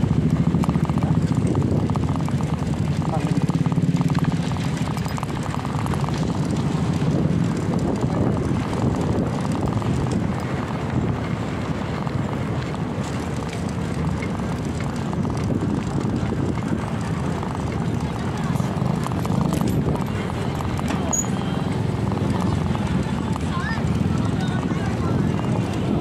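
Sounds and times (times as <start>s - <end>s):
bicycle tyres on rough concrete: 0.0s - 26.0s
wind buffeting microphone: 0.0s - 26.0s.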